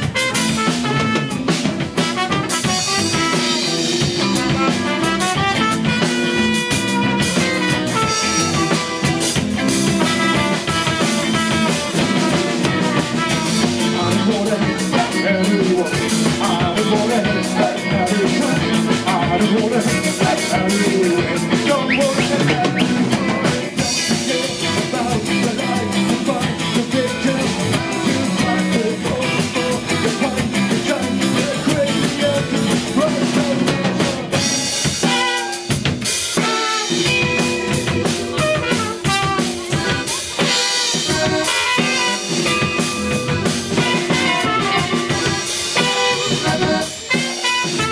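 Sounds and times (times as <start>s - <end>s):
band playing: 0.0s - 47.9s
drum kit: 0.0s - 47.9s.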